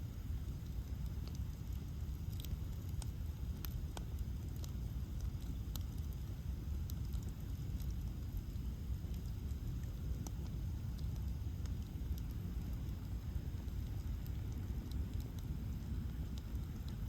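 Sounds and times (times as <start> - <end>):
bonfire low rumble: 0.0 - 17.0
burning wood crackling and popping: 0.0 - 17.0.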